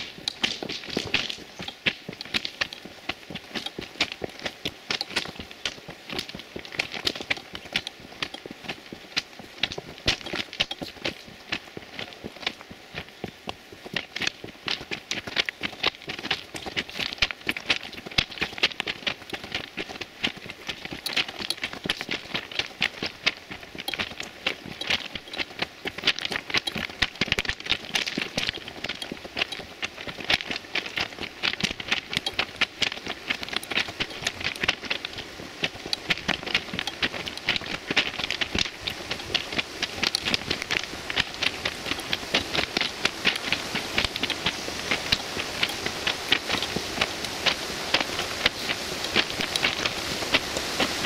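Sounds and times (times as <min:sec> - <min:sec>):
footsteps crunching on ballast: 0:00.0 - 0:51.0
steady hiss: 0:00.0 - 0:51.0.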